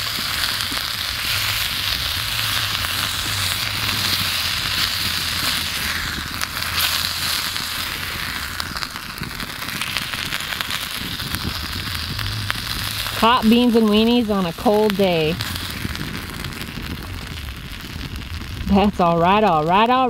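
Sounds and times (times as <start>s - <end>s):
food sizzling in a skillet: 0.0s - 20.0s.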